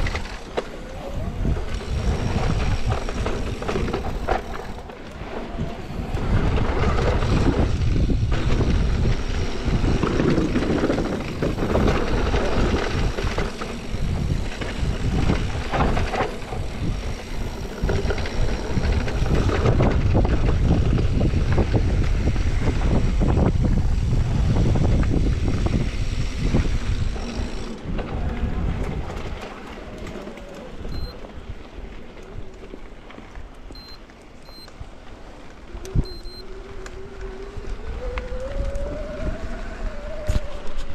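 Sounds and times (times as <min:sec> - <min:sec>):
wind buffeting microphone: 0:00.0 - 0:32.5, 0:34.5 - 0:40.9
tyre noise on dirt: 0:00.0 - 0:35.4.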